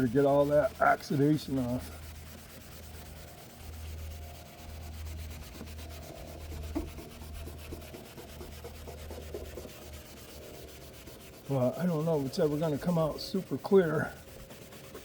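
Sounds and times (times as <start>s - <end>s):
scrubbing pad rubbing plastic: 0.0s - 15.0s.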